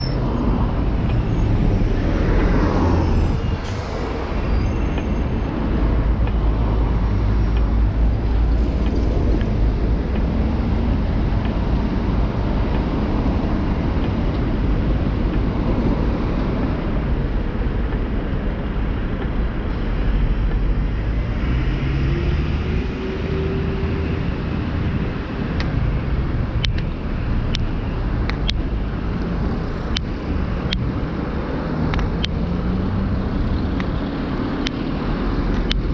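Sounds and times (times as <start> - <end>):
traffic rumble: 0.0 - 35.9.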